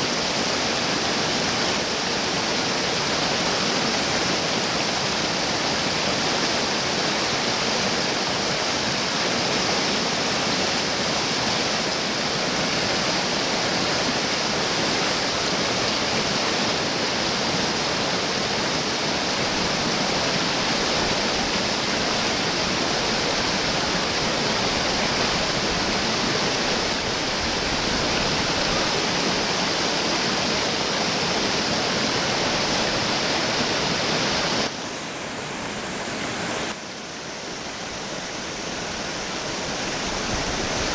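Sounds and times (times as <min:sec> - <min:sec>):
river water pouring over rocks: 0:00.0 - 0:40.9.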